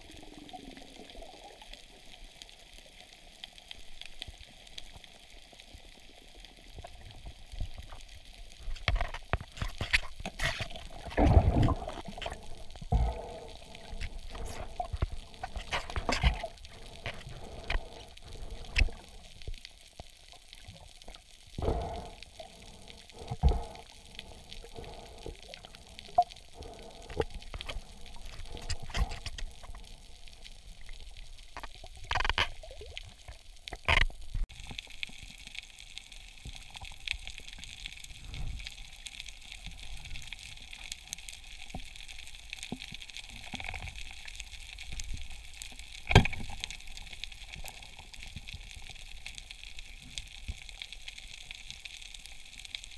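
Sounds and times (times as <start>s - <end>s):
underwater water gurgles and swishes: 0.0s - 52.9s.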